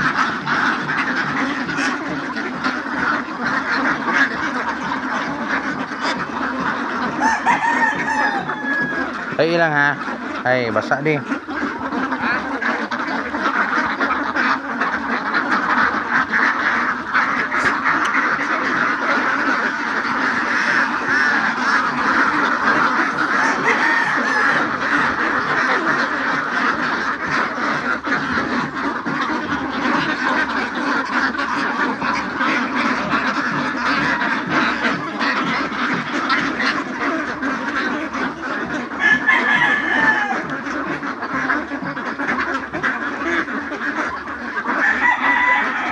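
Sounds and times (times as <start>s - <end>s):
ducks quacking: 0.0s - 45.9s.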